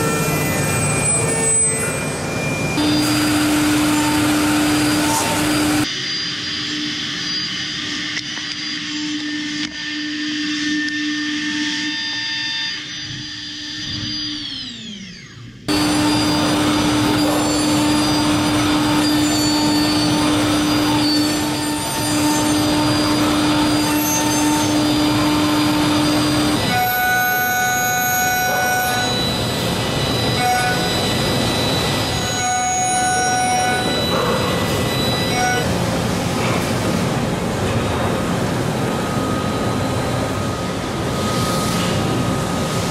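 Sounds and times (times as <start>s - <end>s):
metal milling cutting noise: 0.0s - 42.9s
spindle high whine: 0.0s - 42.9s.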